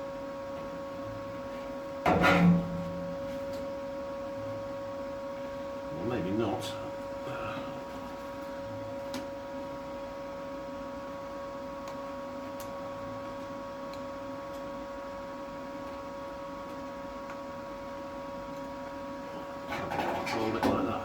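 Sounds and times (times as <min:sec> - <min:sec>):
steady multi-tone hum: 0:00.0 - 0:21.0.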